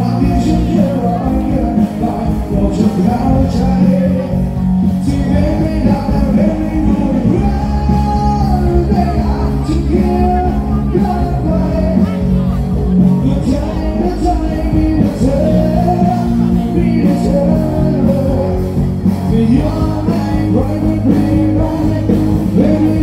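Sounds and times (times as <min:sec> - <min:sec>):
person singing: 0:00.0 - 0:23.0
sustained bass line: 0:00.0 - 0:23.0.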